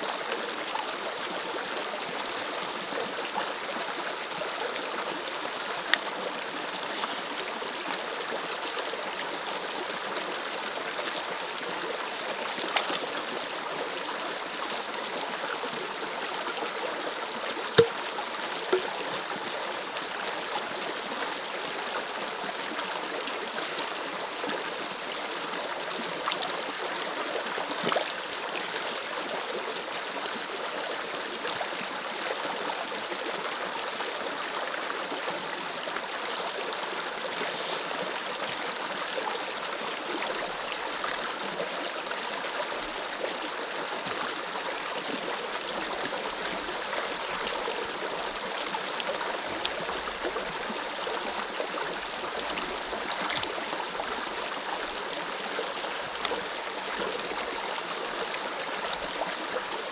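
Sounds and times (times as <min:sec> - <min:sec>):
stream water trickling: 0:00.0 - 0:59.9.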